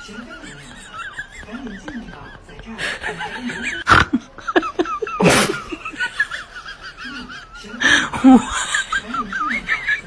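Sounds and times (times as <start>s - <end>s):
person laughing: 0.4s - 10.0s.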